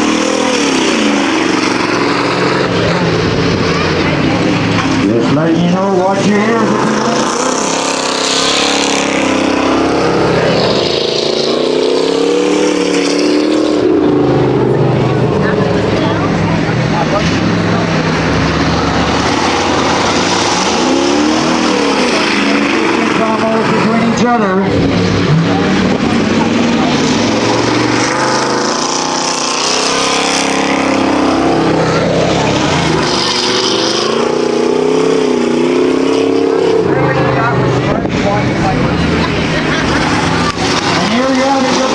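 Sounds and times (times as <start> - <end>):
stock car engines racing past: 0.0 - 41.9.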